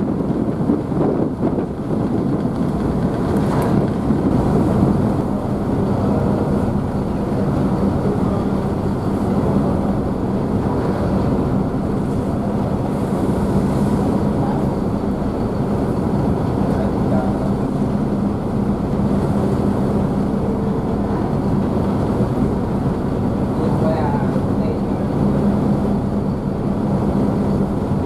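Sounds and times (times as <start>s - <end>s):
rushing wake water: 0.0s - 28.0s
ship engines humming: 0.0s - 28.0s.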